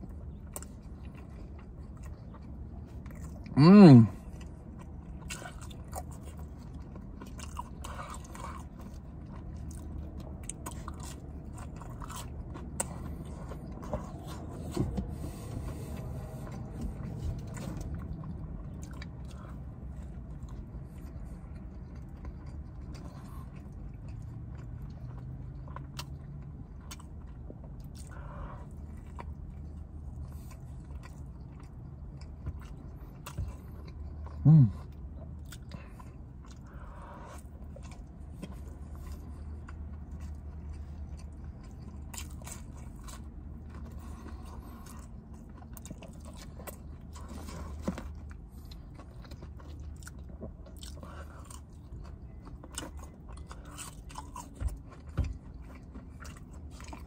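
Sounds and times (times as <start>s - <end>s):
man chewing and biting food: 0.0s - 57.0s
steady low hum: 0.0s - 57.0s.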